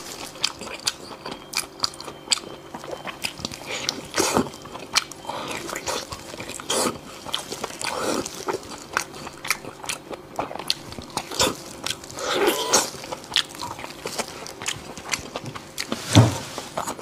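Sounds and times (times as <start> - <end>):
wet chewing noises: 0.0 - 17.0.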